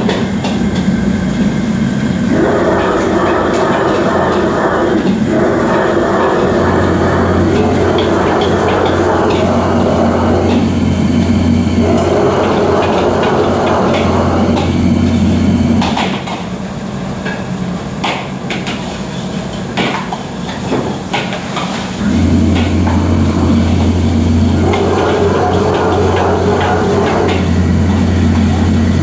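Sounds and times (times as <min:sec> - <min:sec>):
wok burner rumbling: 0:00.0 - 0:29.0.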